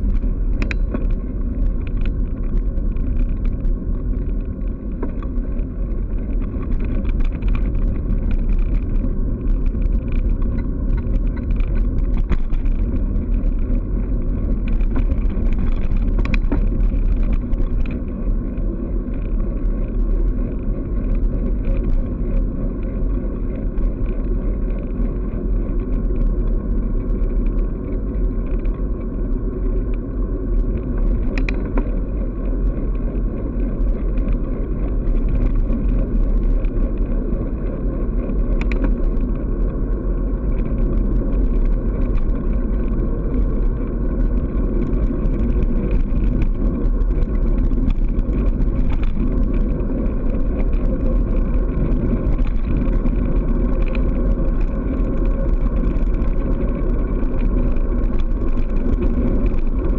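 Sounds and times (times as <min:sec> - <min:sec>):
tyre noise on asphalt: 0:00.0 - 0:59.9
wind rumble on microphone: 0:00.0 - 0:59.9.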